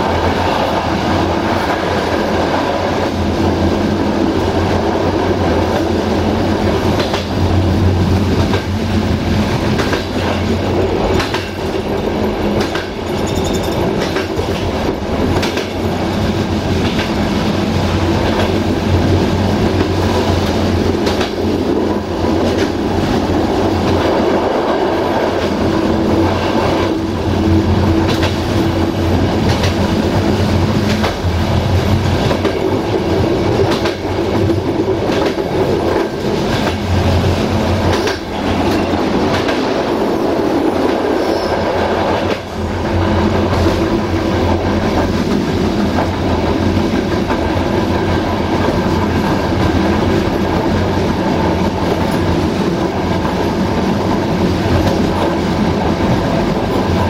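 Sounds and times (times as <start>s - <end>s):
train coach rumbling and humming: 0.0s - 57.0s.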